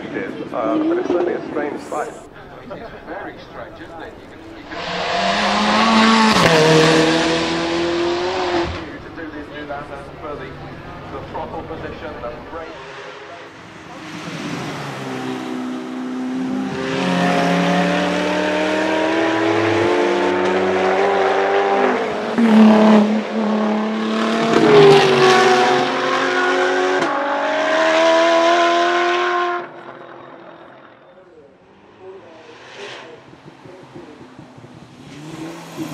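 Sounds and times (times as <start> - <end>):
car engine accelerating hard: 1.8 - 30.9, 31.7 - 35.9.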